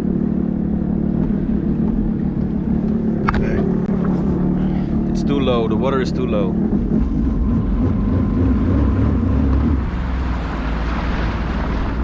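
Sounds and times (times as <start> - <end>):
jet ski engine running: 0.0 - 12.0.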